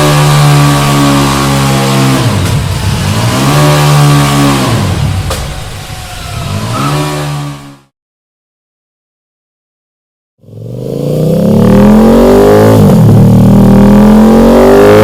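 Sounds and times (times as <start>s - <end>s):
motorcycle engine revving: 0.0s - 7.9s, 10.4s - 15.0s.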